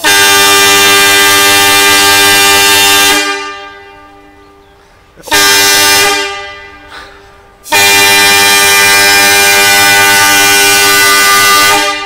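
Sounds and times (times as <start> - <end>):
train air horn blasts: 0.0 - 12.0.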